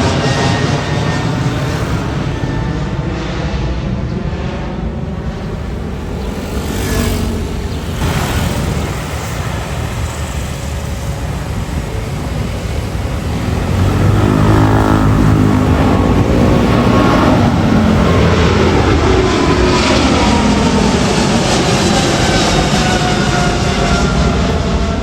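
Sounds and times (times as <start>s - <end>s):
airliner jet engines: 0.0s - 25.0s
buzzing engine tone: 0.0s - 25.0s.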